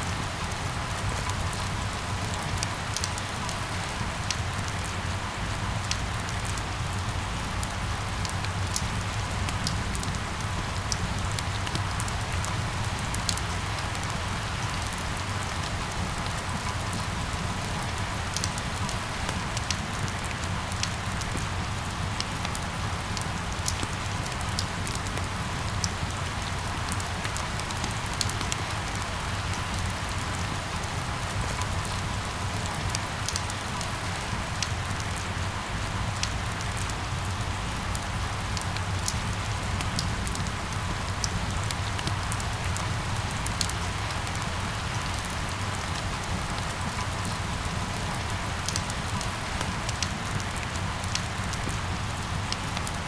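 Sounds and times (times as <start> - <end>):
rain drops ticking: 0.0 - 53.0.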